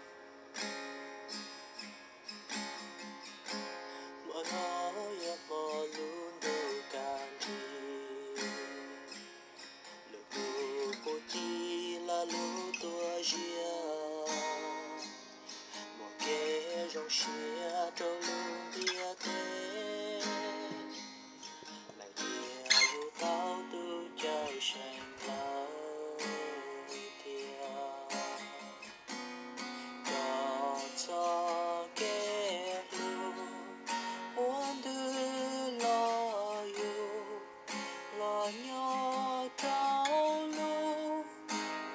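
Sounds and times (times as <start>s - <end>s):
acoustic guitar playing: 0.0s - 41.9s.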